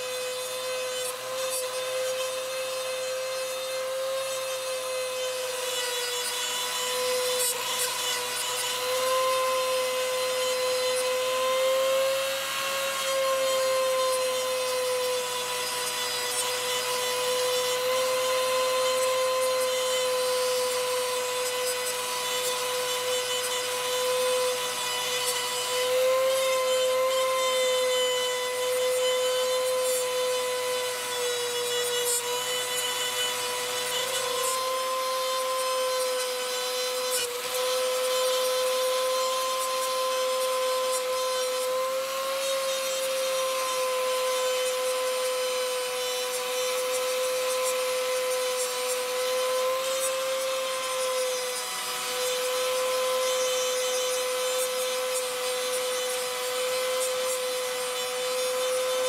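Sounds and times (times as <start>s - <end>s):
rotary tool whining: 0.0s - 59.0s.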